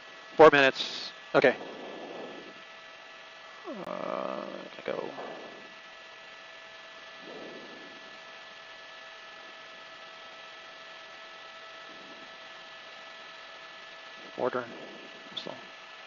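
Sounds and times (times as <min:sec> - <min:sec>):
faint electrical hum: 0:00.0 - 0:16.0
steady hiss: 0:00.0 - 0:16.0
thin steady tones: 0:00.0 - 0:16.0.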